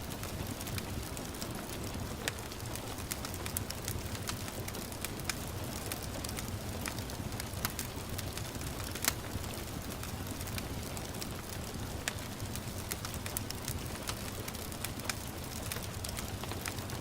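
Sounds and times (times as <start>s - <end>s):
gentle rain hiss: 0.0s - 17.0s
wood fire crackling: 0.0s - 17.0s.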